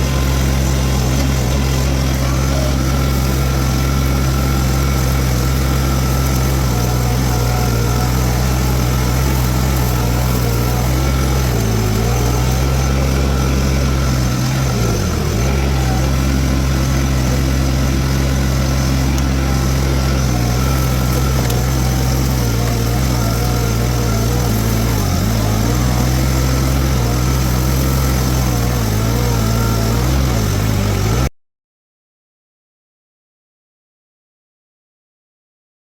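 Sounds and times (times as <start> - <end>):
diesel engine running: 0.0 - 31.3.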